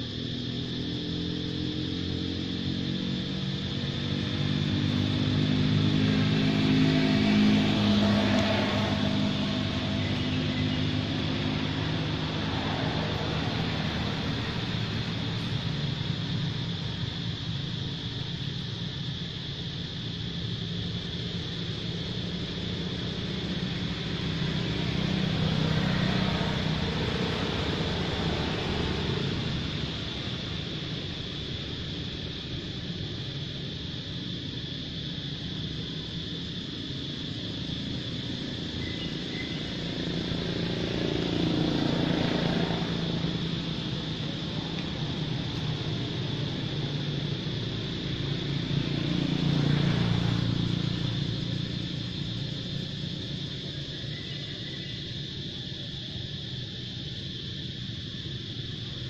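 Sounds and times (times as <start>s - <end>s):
high hiss: 0.0s - 59.0s
low engine hum: 0.0s - 59.0s.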